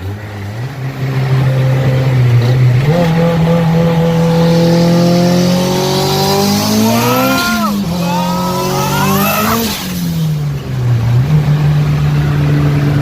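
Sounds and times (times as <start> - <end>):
turbo car engine revving hard: 0.0 - 13.0.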